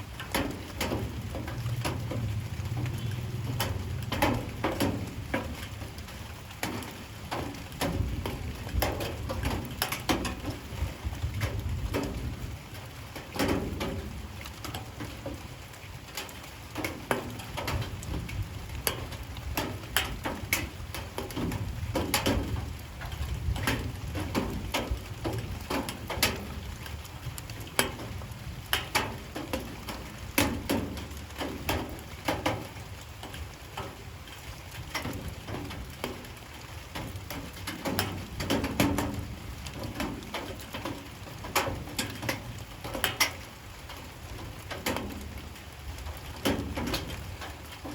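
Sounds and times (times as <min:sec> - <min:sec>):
light rain falling: 0:00.0 - 0:47.9.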